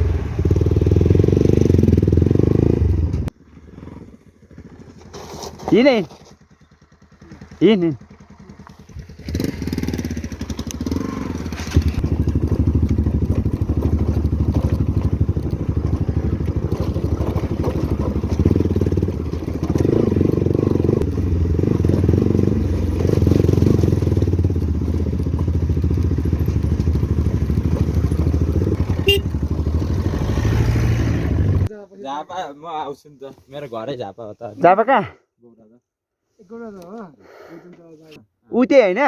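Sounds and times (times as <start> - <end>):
motorcycle engine riding off: 0.0 - 31.7.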